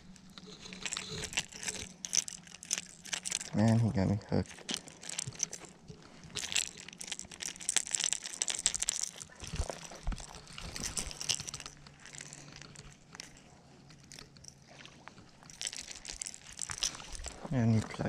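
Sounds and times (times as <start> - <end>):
rustling and crackling handling noise: 0.0 - 18.0.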